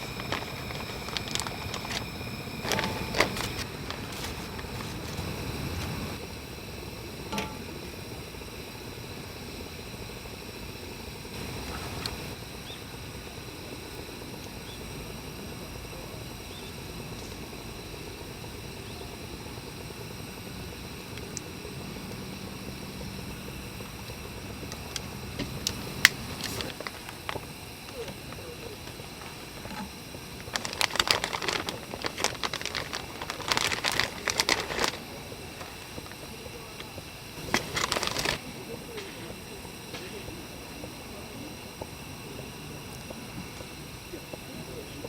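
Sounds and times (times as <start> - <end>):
steady background hiss: 0.0 - 45.0
steady low hum: 0.0 - 45.0.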